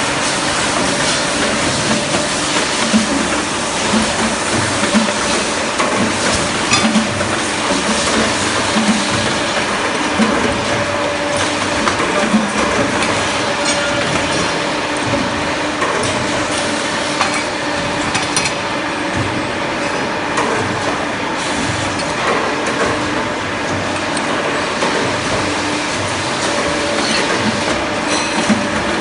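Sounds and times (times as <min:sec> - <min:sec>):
machine mechanical hum: 0:00.0 - 0:29.0.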